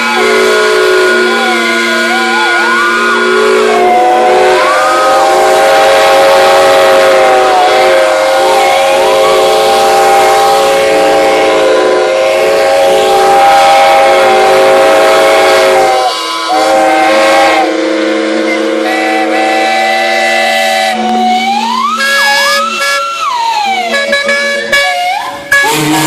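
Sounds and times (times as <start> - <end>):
steam whistles blowing: 0.0 - 26.0.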